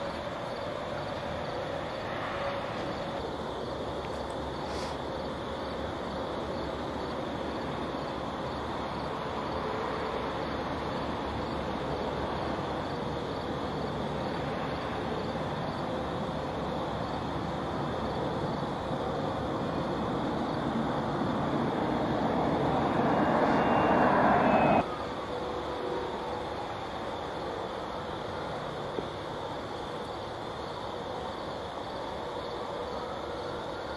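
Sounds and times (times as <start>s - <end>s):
vehicle rumble and hiss: 0.0s - 33.9s.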